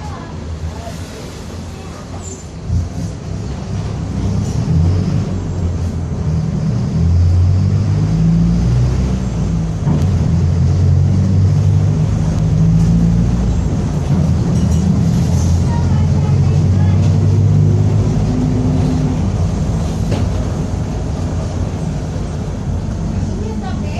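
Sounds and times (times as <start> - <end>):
bus diesel engine pulling: 0.0 - 23.9.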